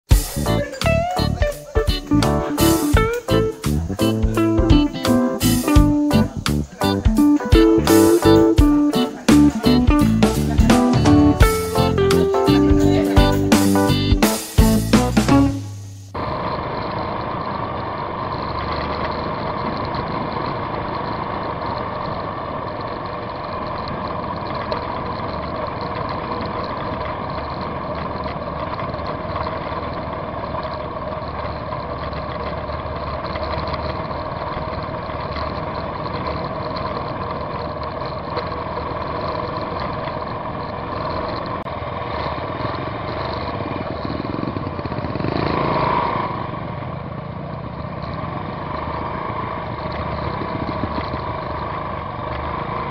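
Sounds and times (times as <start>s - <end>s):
motorcycle engine running: 0.1s - 52.9s.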